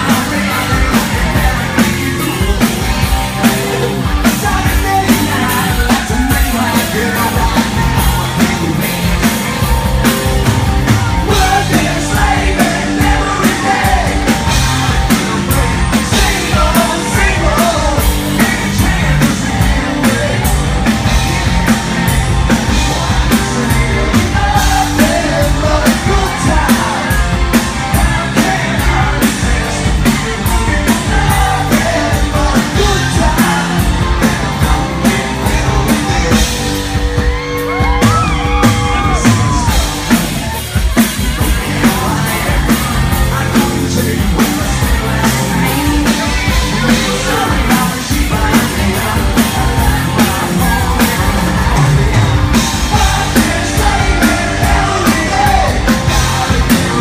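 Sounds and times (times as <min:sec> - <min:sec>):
bass guitar: 0:00.0 - 0:57.0
drums: 0:00.0 - 0:57.0
electric guitar: 0:00.0 - 0:57.0
person singing: 0:00.0 - 0:57.0.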